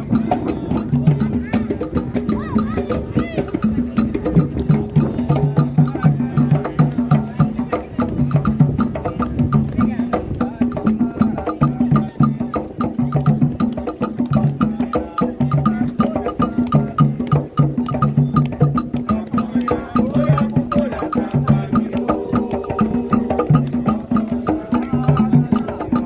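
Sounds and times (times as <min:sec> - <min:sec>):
hand drums playing fast rhythm: 0:00.0 - 0:26.0.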